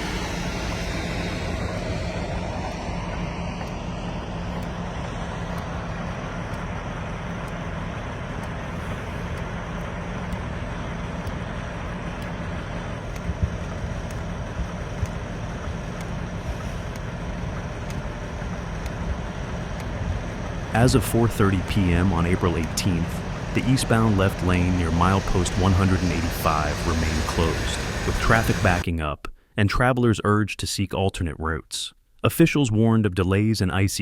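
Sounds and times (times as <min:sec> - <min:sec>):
vehicle road noise: 0:00.0 - 0:28.8
low engine hum: 0:00.0 - 0:28.9.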